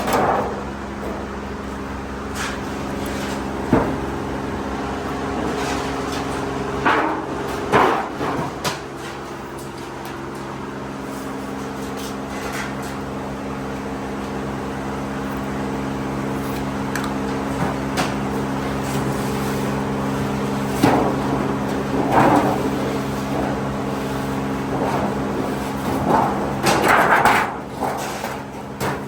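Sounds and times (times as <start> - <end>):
workshop machinery humming: 0.0 - 29.0.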